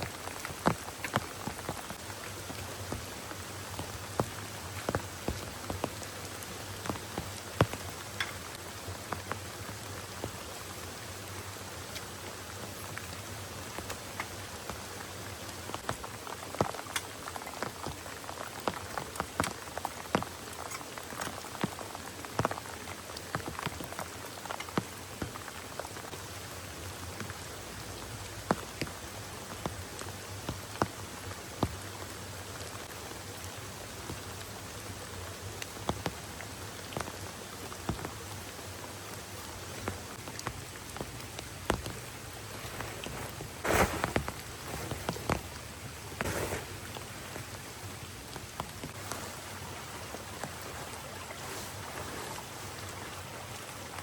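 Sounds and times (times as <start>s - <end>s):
heavy rain falling: 0.0s - 54.0s
raindrops striking close by: 0.0s - 54.0s.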